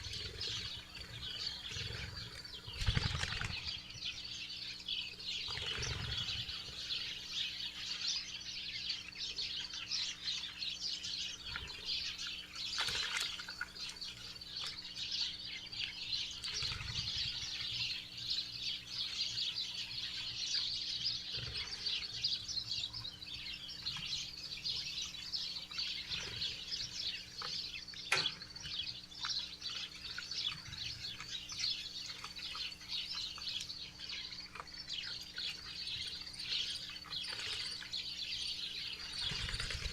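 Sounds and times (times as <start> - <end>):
faint steady hum: 0.0 - 39.9
small birds chirping: 0.0 - 39.9.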